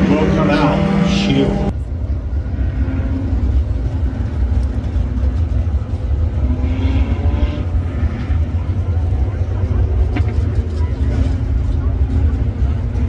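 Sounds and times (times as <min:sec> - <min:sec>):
race car engines rumbling: 0:00.0 - 0:13.0.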